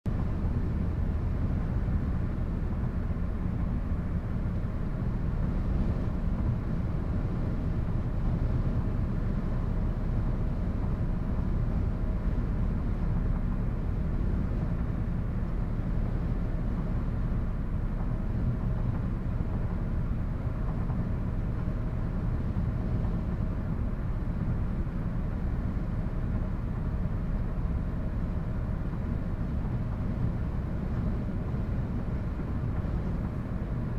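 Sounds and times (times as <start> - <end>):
distant traffic rumble: 0.1 - 33.9.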